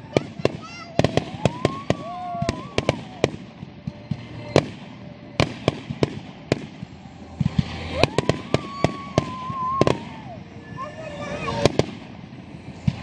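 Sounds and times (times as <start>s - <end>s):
firework whistle: 0.0s - 13.0s
fireworks bangs and crackles: 0.0s - 13.0s.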